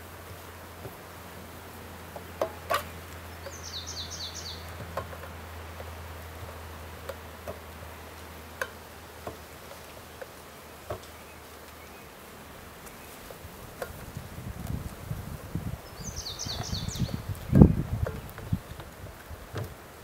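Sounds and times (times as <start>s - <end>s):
steady low hum: 0.0s - 20.0s
songbird trill: 2.1s - 19.0s.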